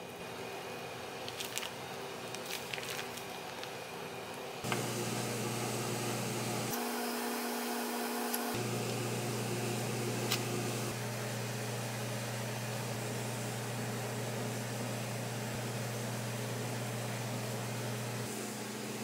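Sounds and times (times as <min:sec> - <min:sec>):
kitchen appliances humming: 0:00.0 - 0:19.0.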